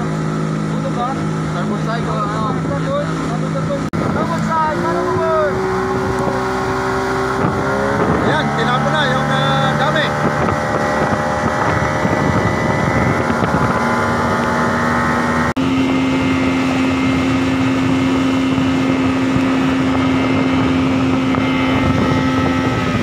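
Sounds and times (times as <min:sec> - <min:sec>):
rushing water: 0:00.0 - 0:23.0
speedboat engine running: 0:00.0 - 0:23.0
wind noise: 0:03.8 - 0:23.0.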